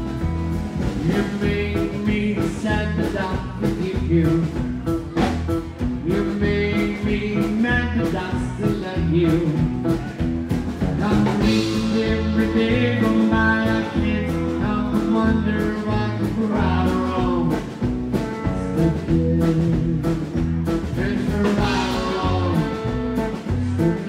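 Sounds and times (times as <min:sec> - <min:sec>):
rockabilly band playing live: 0:00.0 - 0:24.0
steady drum beat: 0:00.0 - 0:24.0.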